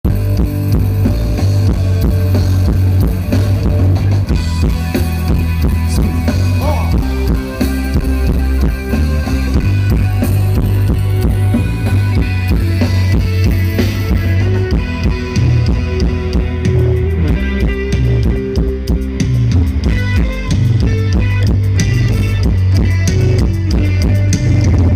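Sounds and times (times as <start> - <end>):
drum kit and bass: 0.0 - 24.9
rock band playing: 0.0 - 24.9.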